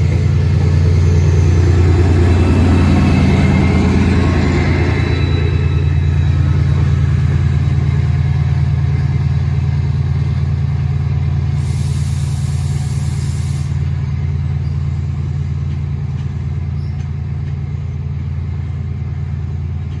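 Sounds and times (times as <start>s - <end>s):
locomotive engine droning: 0.0s - 20.0s.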